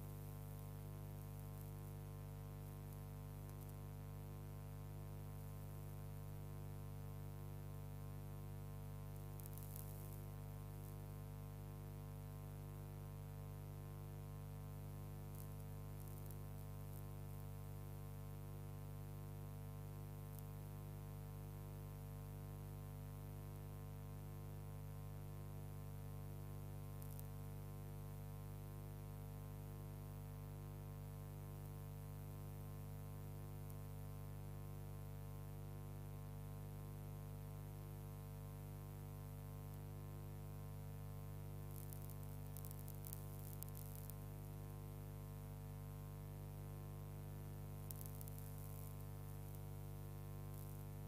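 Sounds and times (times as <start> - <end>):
electrical mains hum: 0.0 - 51.0.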